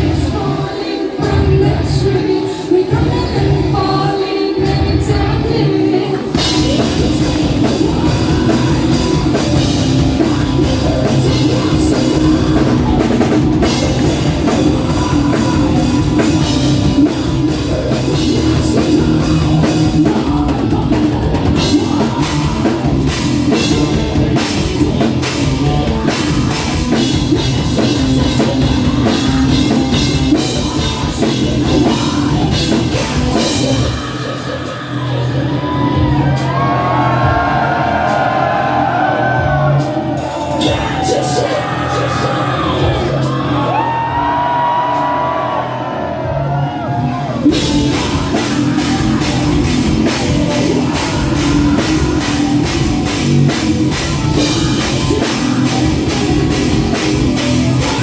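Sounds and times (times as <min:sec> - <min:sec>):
drum kit: 0:00.0 - 0:58.0
distorted electric guitar: 0:06.3 - 0:58.0.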